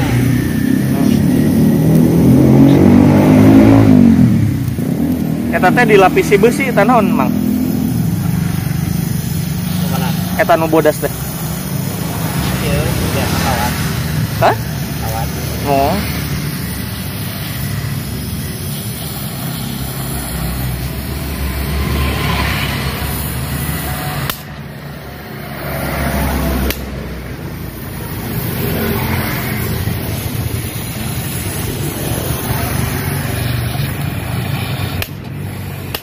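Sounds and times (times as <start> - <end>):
welding torch flame hissing: 0.0 - 36.0.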